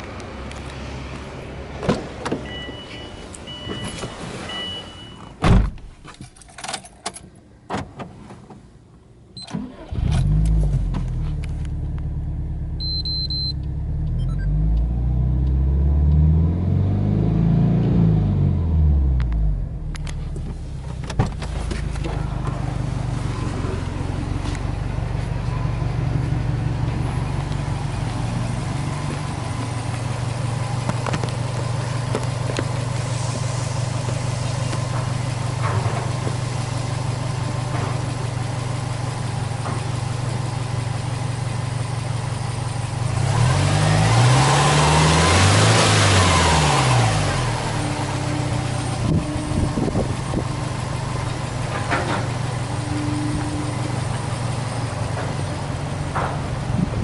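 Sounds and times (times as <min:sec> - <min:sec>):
car engine starting and idling: 0:00.0 - 0:57.0.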